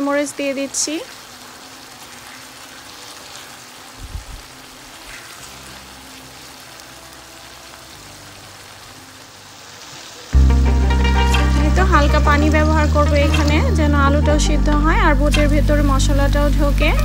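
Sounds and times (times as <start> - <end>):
curry sizzling in a frying pan: 0.0 - 17.0.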